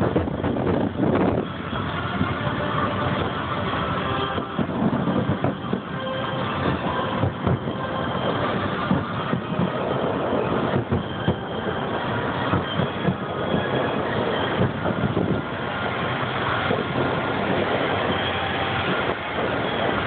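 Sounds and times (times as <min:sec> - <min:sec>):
distant fireworks rumble: 0:00.0 - 0:20.0.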